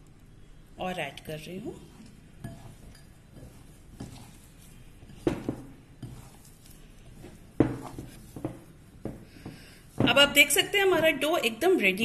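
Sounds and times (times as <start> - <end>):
hand kneading dough in bowl: 1.1 - 12.0.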